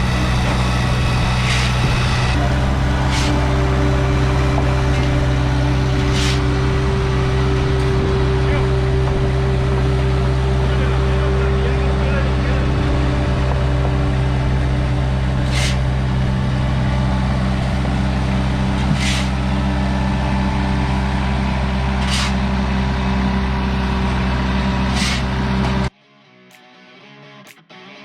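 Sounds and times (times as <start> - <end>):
excavator engine running: 0.0 - 25.9.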